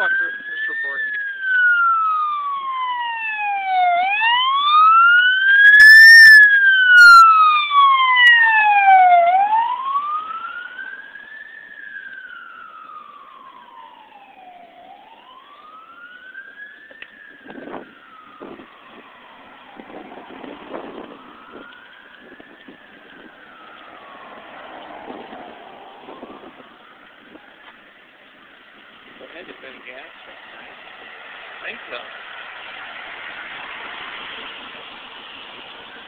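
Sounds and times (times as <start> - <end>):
emergency siren wailing: 0.0 - 31.1.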